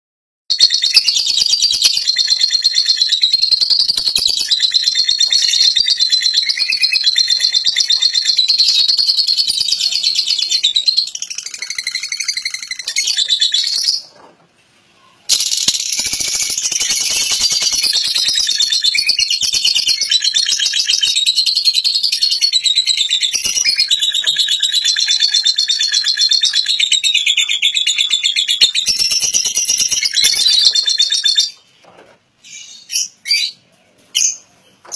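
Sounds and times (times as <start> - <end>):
lovebird chattering trill: 0.5 - 14.0, 15.3 - 31.5.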